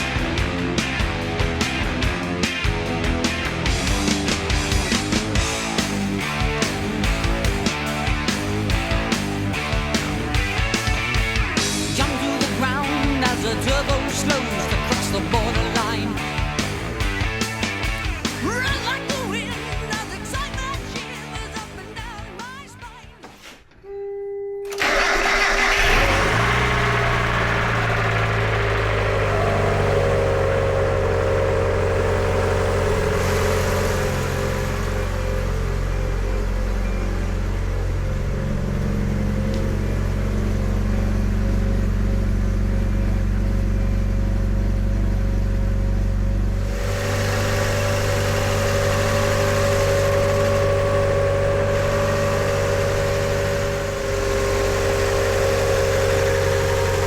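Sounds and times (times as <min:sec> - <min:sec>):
car engine starting and idling: 0:00.0 - 0:22.5, 0:24.7 - 0:57.0.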